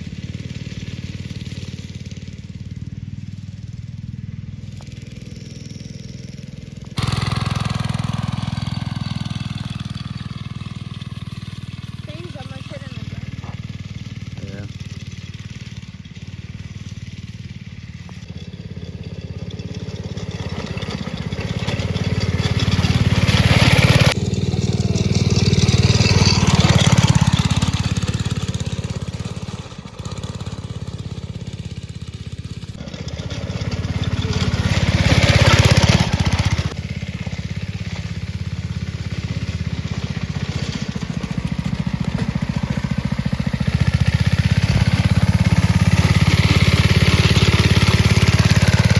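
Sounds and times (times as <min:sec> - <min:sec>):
go-kart engine running: 0:00.0 - 0:48.9.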